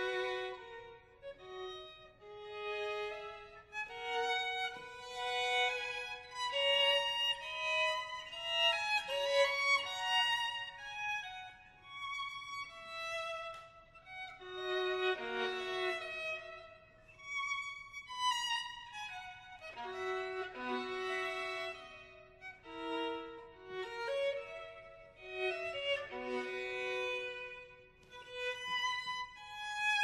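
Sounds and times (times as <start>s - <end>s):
slow violin melody: 0.0s - 30.0s.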